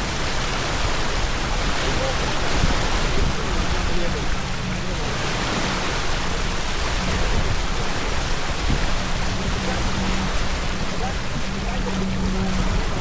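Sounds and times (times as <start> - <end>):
water washing along hull: 0.0 - 13.0
wind over microphone: 0.0 - 13.0.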